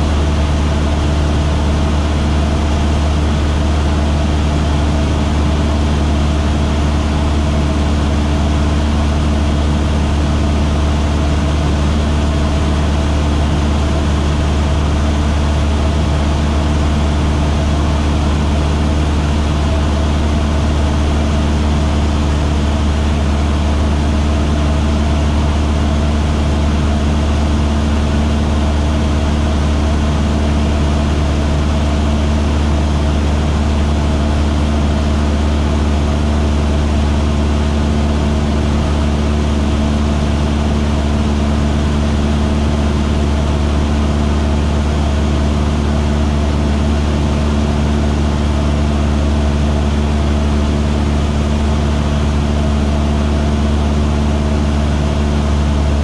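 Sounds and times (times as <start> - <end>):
light airplane engine drone: 0.0 - 56.0.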